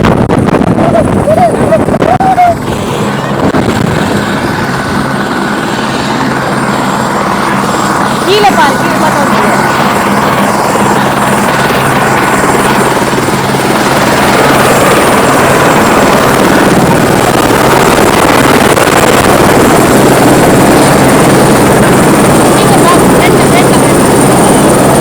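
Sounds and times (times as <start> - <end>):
helicopter rotor and engine: 0.0 - 25.0.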